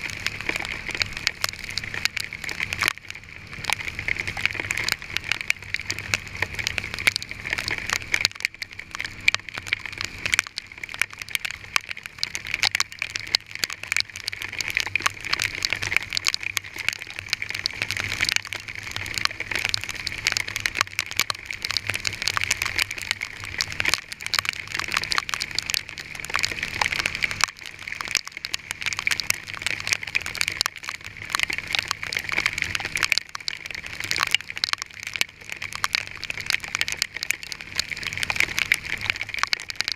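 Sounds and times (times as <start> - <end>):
hail pelting a vehicle: 0.0 - 39.9.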